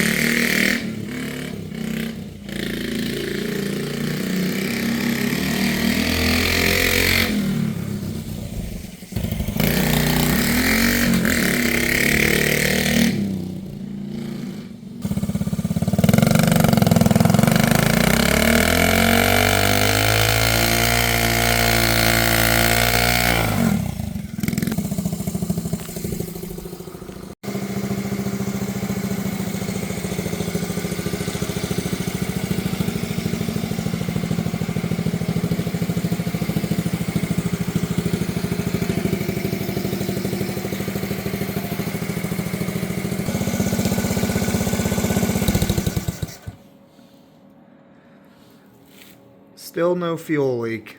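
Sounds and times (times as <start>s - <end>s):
small motorcycle engine revving: 0.0s - 46.7s.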